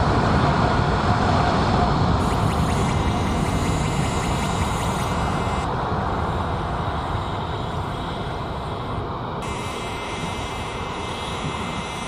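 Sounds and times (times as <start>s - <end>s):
jet engines roaring on takeoff: 0.0s - 12.0s.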